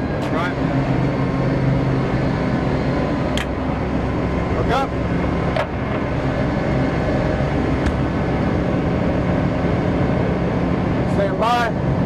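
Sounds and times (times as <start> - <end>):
tank turbine engine rumble: 0.0 - 12.0.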